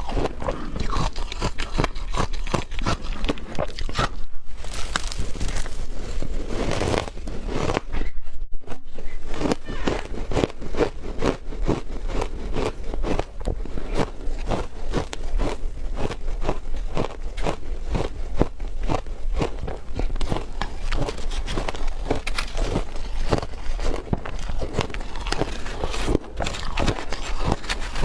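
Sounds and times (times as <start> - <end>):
crunching of frozen ice being chewed: 0.0 - 7.9, 9.2 - 28.0.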